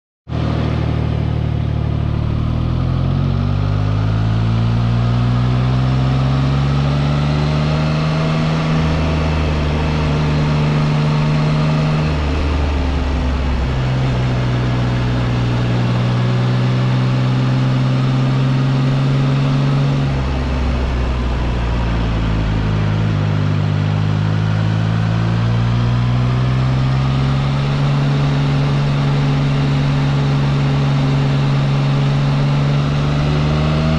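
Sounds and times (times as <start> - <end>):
motorcycle engine while riding: 0.3 - 33.9
wind and road noise: 0.3 - 33.9.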